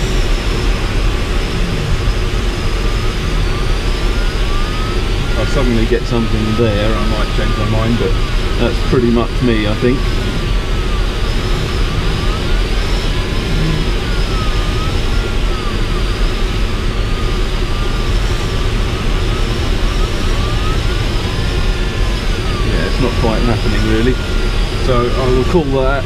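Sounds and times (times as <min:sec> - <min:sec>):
airflow rushing around cockpit: 0:00.0 - 0:26.0
electronic tone sweeping in pitch: 0:00.0 - 0:26.0.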